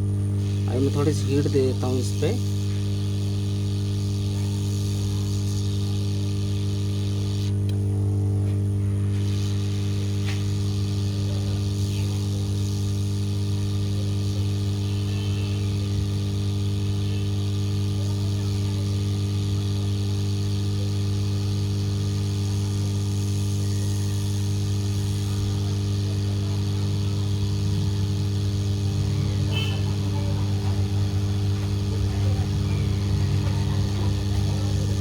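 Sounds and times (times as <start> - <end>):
hot air station blowing: 0.0 - 35.0.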